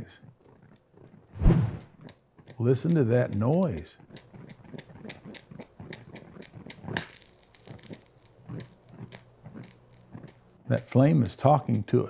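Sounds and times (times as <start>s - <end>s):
molten plastic drops ticking and crackling: 2.0s - 12.0s.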